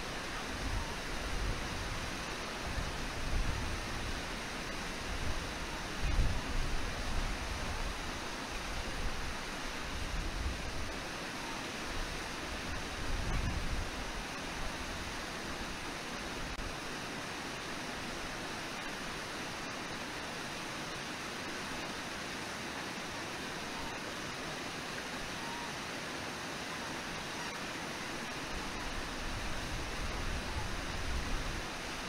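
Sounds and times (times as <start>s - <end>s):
river water rushing over falls: 0.0s - 32.0s.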